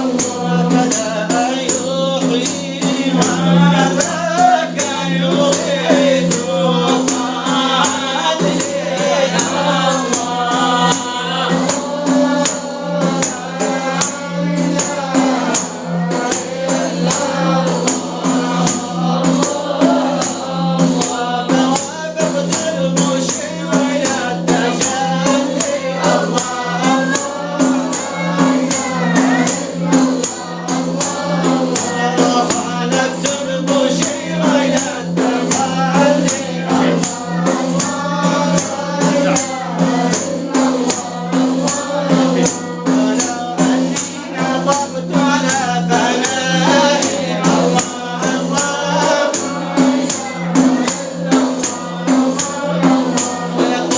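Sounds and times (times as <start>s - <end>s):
devotional chant with chorus: 0.0s - 53.9s
jingling frame drum beats: 0.0s - 53.9s.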